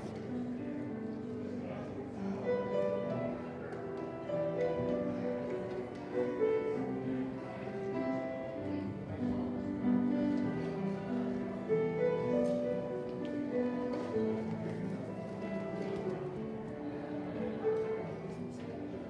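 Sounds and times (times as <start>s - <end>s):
slow keyboard music: 0.0s - 18.9s.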